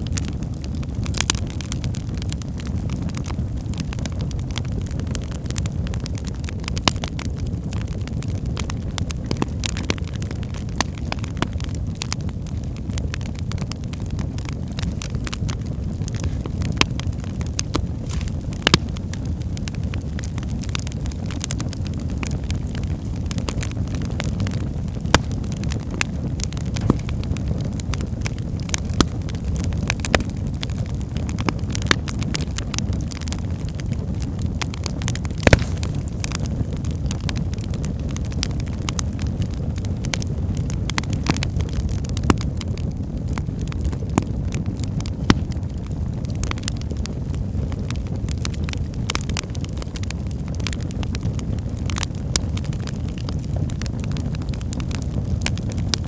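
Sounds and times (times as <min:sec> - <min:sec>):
fire rumbling: 0:00.0 - 0:56.0
logs crackling and popping: 0:00.0 - 0:56.0.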